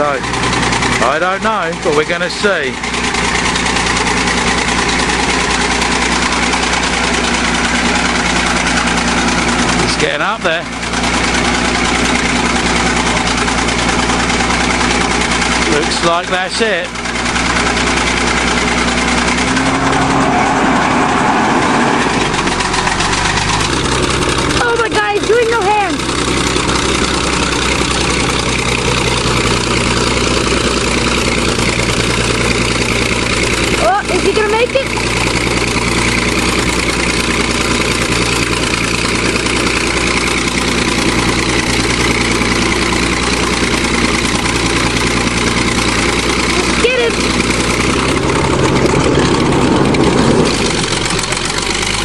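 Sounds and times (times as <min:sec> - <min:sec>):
bulldozer engine under load: 0:00.0 - 0:52.0.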